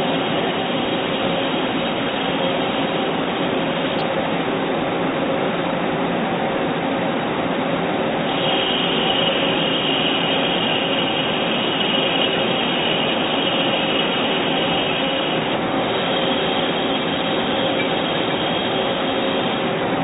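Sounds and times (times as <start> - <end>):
machine tool running with whine: 0.0 - 20.0.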